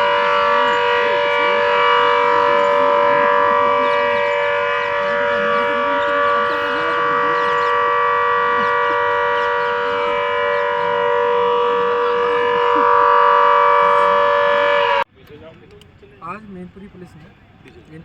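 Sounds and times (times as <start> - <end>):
air-raid siren steady tone: 0.0 - 15.1.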